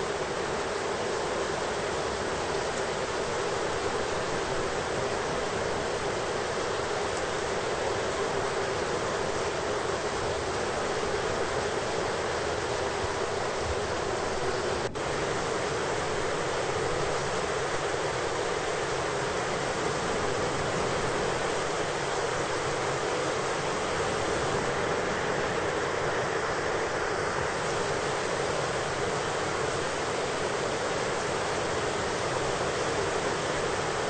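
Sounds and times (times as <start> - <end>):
heavy rain hiss: 0.0 - 34.0.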